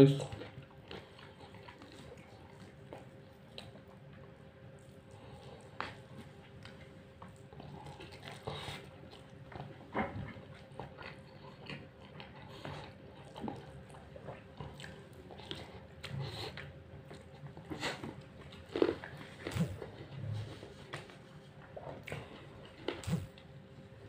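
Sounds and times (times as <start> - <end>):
person chewing food: 0.2 - 24.0.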